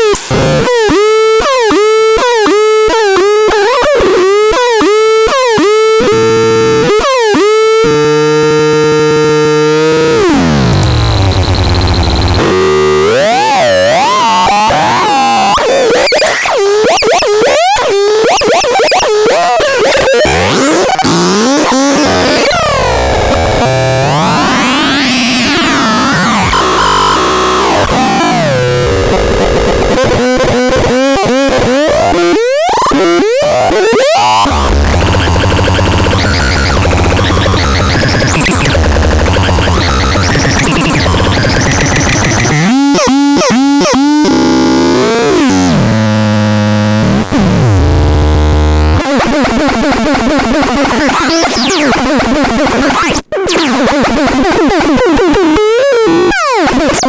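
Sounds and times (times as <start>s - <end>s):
harsh synthesizer sounds: 0.0s - 57.0s.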